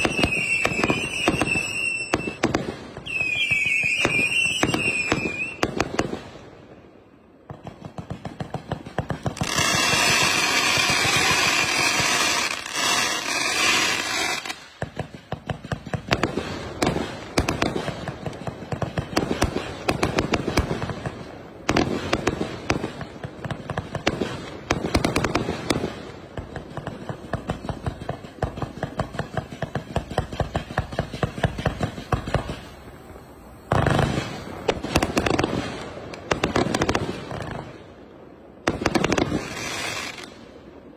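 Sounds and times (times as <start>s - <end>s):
fireworks popping and crackling: 0.0s - 6.5s, 7.4s - 40.9s.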